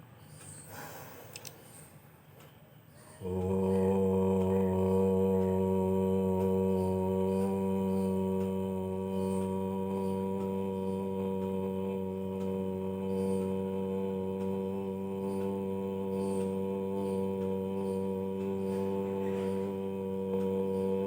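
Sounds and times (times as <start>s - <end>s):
person chanting om: 3.1s - 21.0s.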